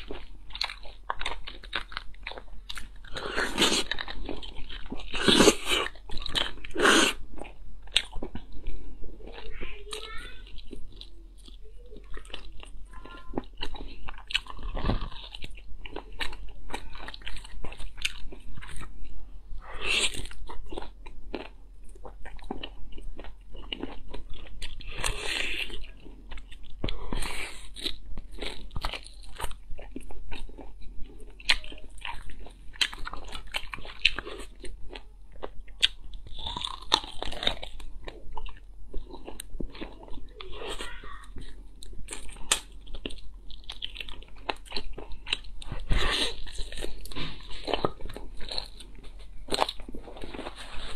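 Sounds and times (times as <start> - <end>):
person chewing meat: 0.0 - 50.9.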